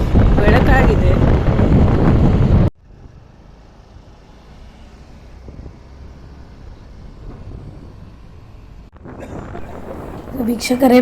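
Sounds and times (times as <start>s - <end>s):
wind buffeting microphone: 0.0s - 3.3s, 5.1s - 11.0s
car rumbling on the road: 0.0s - 11.0s.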